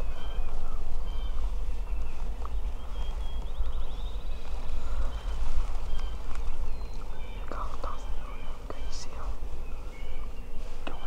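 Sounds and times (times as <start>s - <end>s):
bird trill: 0.0s - 11.0s
low microphone rumble: 0.0s - 11.0s
songbirds chirping: 0.0s - 11.0s.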